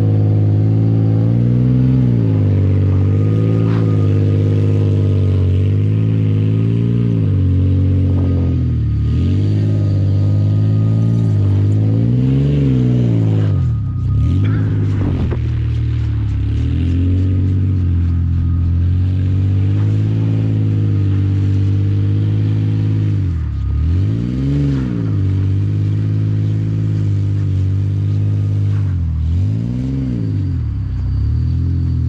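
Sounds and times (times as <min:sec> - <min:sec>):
pickup engine at high revs: 0:00.0 - 0:32.0.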